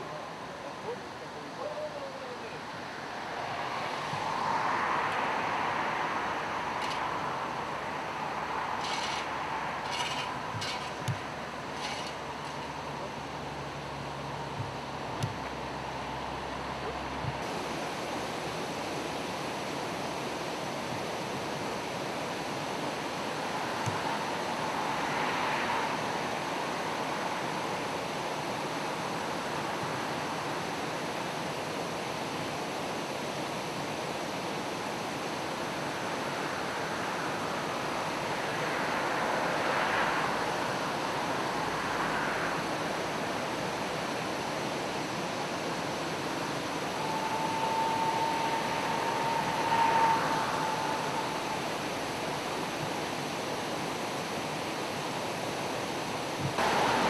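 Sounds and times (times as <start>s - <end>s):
river water rushing over rapids: 0.0s - 57.0s.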